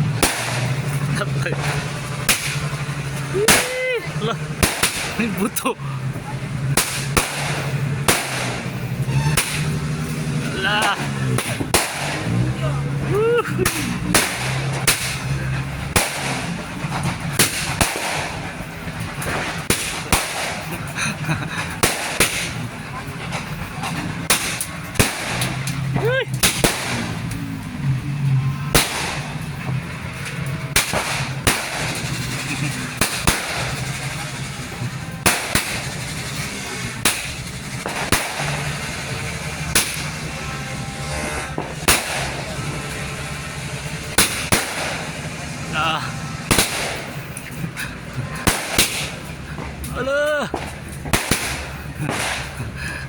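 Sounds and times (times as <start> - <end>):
fireworks bangs: 0.0 - 53.0
steady background noise: 0.0 - 53.0.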